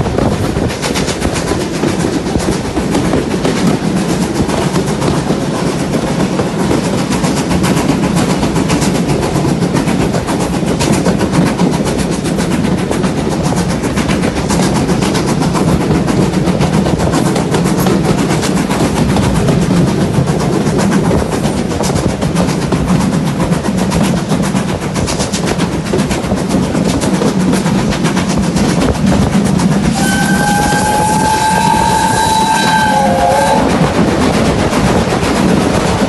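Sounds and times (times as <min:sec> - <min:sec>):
train carriage rumbling and clattering: 0:00.0 - 0:36.0.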